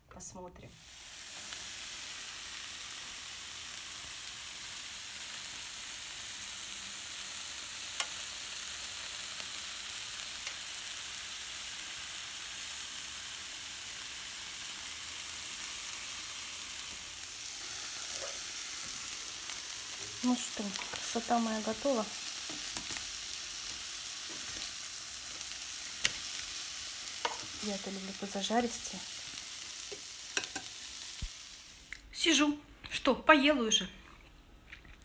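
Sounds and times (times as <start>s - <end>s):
meat sizzling on a grill: 0.8s - 32.0s.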